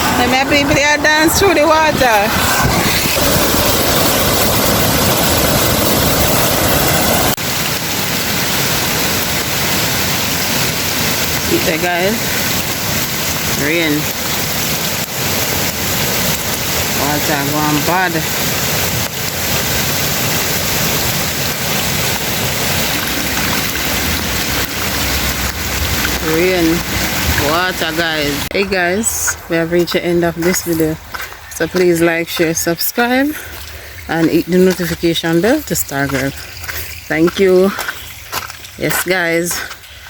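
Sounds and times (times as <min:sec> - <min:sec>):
floodwater flowing: 0:00.0 - 0:40.0
heavy rain: 0:00.0 - 0:40.0.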